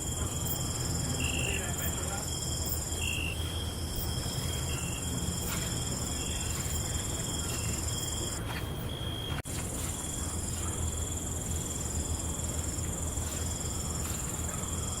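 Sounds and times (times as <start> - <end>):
crickets trilling: 0.0 - 15.0
insect chirps: 0.0 - 15.0.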